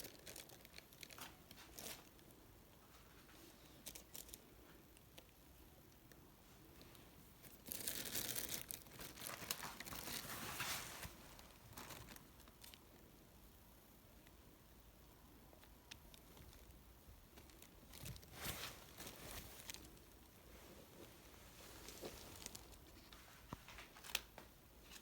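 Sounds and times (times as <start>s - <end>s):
rustling and crinkling: 0.0s - 13.1s, 15.5s - 25.0s.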